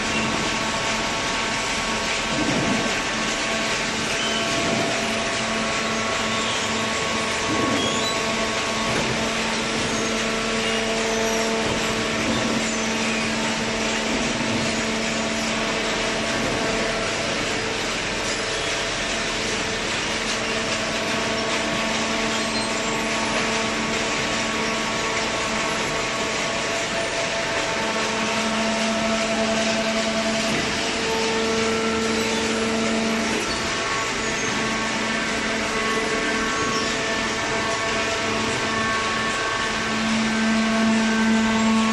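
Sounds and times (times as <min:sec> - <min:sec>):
hydraulic motor humming: 0:00.0 - 0:41.9
pump whine: 0:00.0 - 0:41.9.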